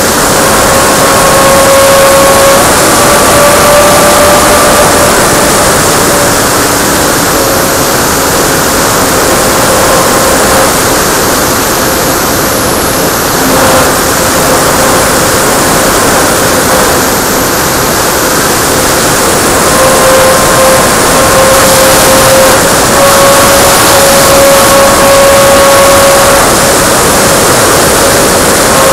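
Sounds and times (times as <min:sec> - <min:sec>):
electric motor and propeller whine: 0:00.0 - 0:28.9.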